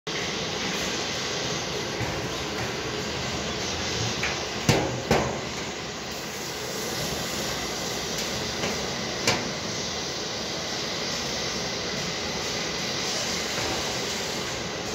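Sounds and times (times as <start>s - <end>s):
gas torch hissing: 0.1s - 14.9s.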